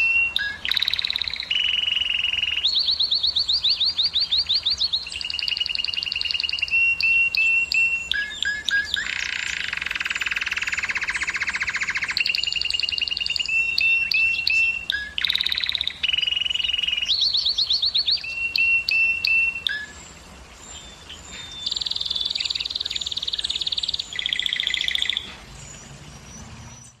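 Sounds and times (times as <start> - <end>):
canary singing rapid trills: 0.0 - 27.0.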